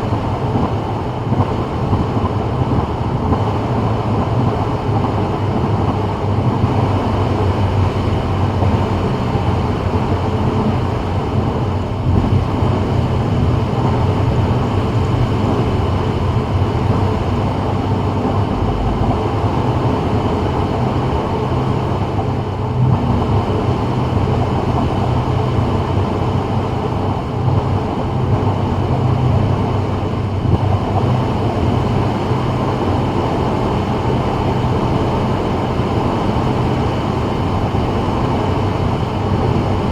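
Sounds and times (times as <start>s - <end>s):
low engine hum: 0.0s - 39.9s.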